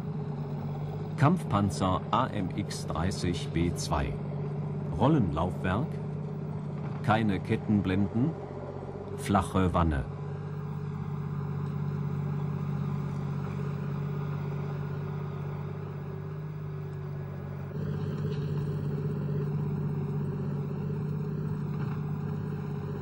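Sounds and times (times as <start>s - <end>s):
tank engine droning: 0.0s - 23.0s.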